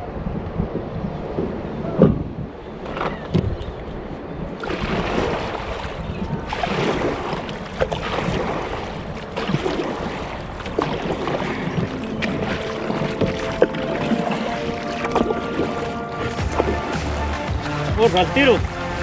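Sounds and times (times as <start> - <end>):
wind on microphone: 0.0 - 17.7
water splashing and lapping: 1.1 - 19.0.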